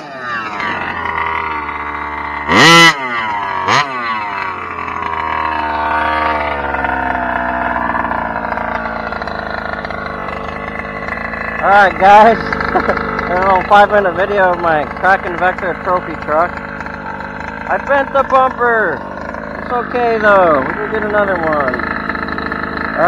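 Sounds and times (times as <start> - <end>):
model truck engine revving: 0.0 - 23.0.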